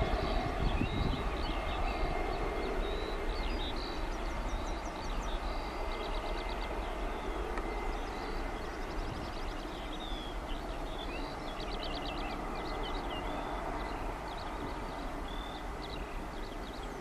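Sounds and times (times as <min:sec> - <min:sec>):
distant jet engine: 0:00.0 - 0:17.0
songbirds chirping: 0:00.0 - 0:17.0.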